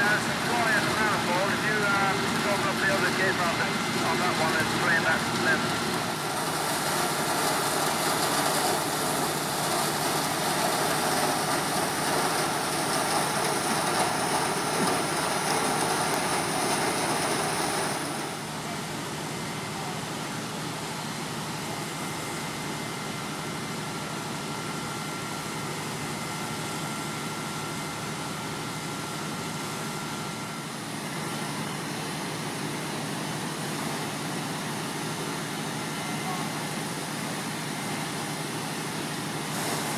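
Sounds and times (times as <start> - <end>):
fire engine pumps running: 0.0 - 39.9.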